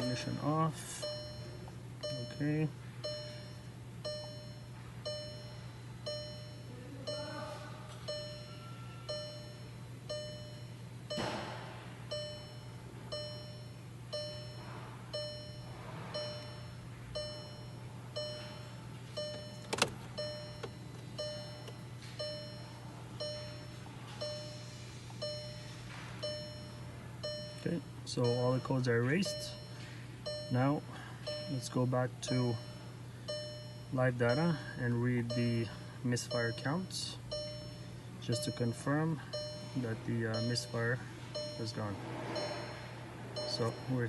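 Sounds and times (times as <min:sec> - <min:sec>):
electronic warning chime dinging: 0:00.0 - 0:44.0
steady low hum: 0:00.0 - 0:44.0.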